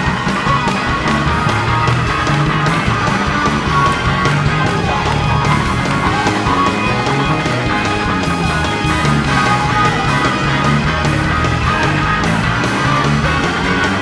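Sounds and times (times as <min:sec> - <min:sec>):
heavy bass notes: 0:00.0 - 0:14.0
loud band music: 0:00.0 - 0:14.0
steady drumbeat: 0:00.0 - 0:14.0.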